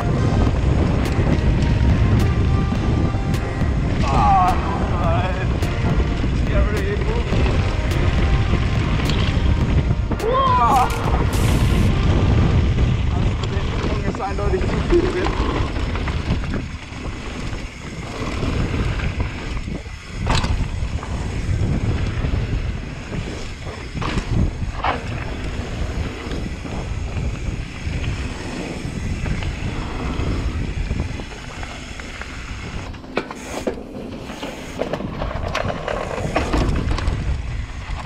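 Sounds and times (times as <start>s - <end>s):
bike clattering clicks: 0.0s - 2.5s, 8.9s - 38.0s
bike knocking on bumps: 0.0s - 38.0s
tyres rumbling over ground: 0.0s - 38.0s
wind rush on microphone: 0.0s - 38.0s.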